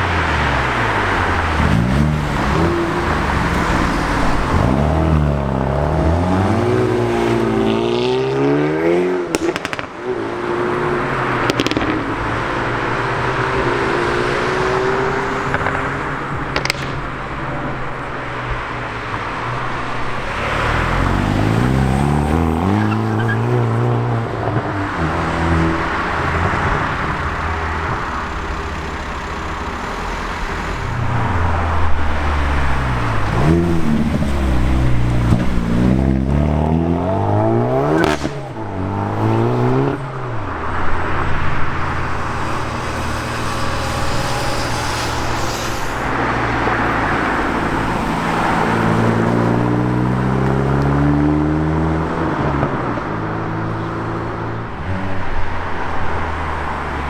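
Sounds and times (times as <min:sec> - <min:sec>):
exhaust crackle: 0:00.0 - 0:08.3, 0:09.2 - 0:57.0
car engines revving: 0:00.0 - 0:57.0.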